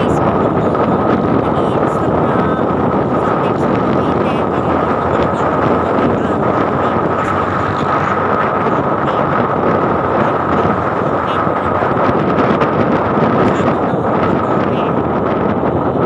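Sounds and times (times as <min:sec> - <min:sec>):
motorcycle running: 0:00.0 - 0:16.0
wind rush on microphone: 0:00.0 - 0:16.0.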